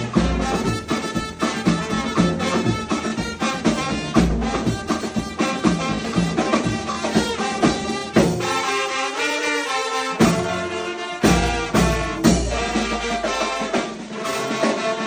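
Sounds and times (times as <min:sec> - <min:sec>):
music with brass and drums: 0:00.0 - 0:15.0.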